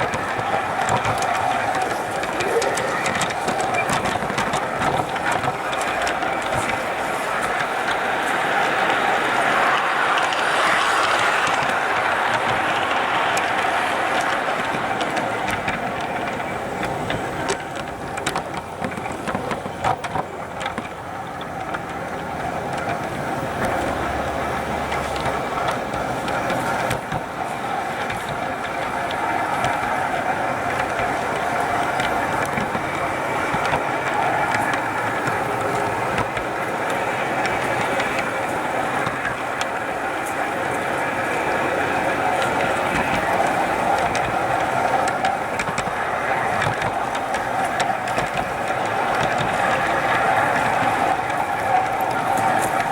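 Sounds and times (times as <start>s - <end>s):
model train rolling: 0.0s - 52.9s
small clicks and rattles: 0.0s - 52.9s.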